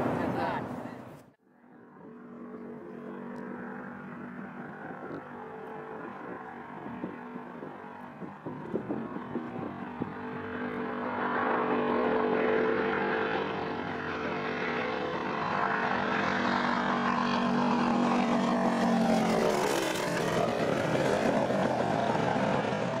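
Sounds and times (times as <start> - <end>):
propeller plane flyby: 0.0 - 23.0.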